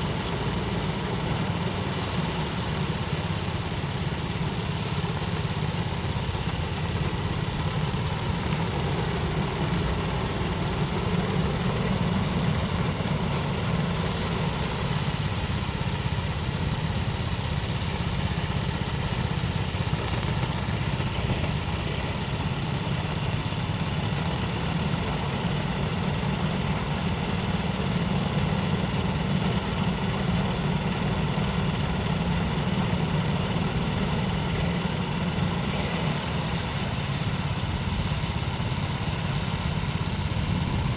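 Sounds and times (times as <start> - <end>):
thresher engine drone: 0.0 - 40.9.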